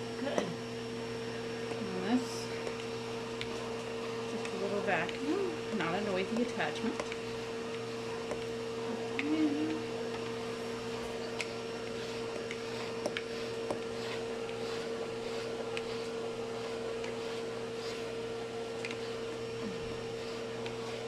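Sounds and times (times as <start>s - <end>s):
vacuum motor hum: 0.0s - 21.0s.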